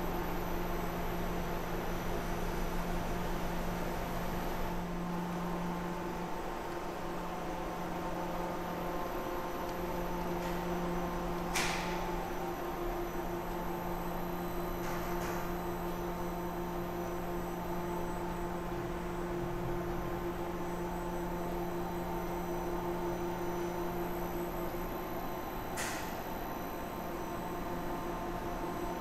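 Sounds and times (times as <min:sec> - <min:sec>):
machine hum with steady tones: 0:00.0 - 0:29.0.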